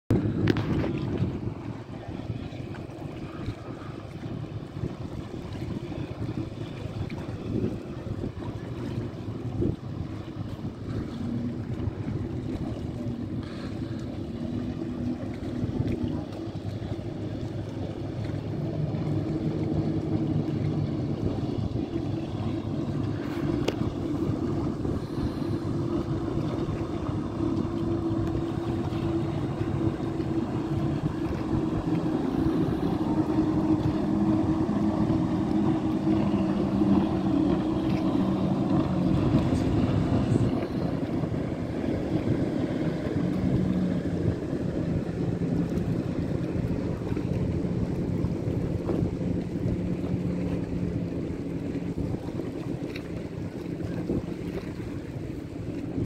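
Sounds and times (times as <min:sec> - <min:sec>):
motorboat engines running: 0:00.1 - 0:56.0
water washing: 0:00.1 - 0:56.0
wind on microphone: 0:00.1 - 0:56.0.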